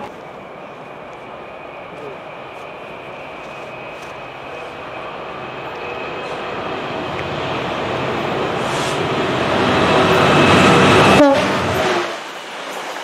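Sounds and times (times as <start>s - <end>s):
train approaching on track: 0.0s - 13.0s.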